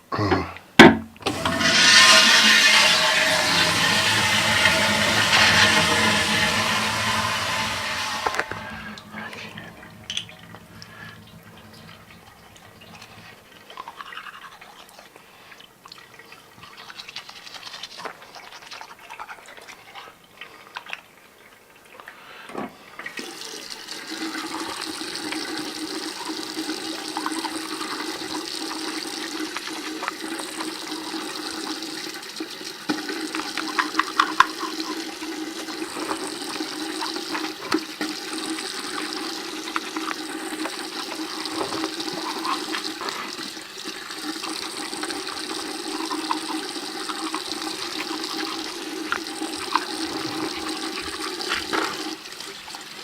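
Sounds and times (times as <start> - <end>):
water running: 1.2 - 14.8, 23.0 - 53.0.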